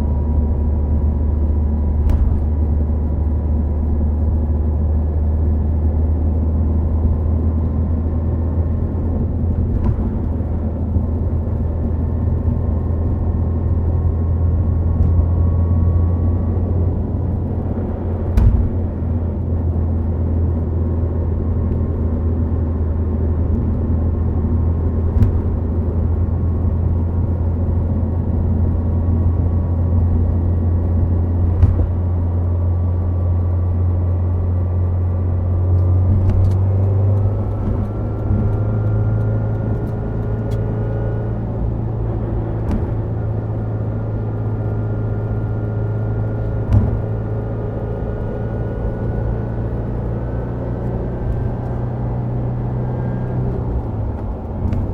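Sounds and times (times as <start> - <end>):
car engine drone at cruise: 0.0 - 54.9
tyre and road noise: 0.0 - 54.9.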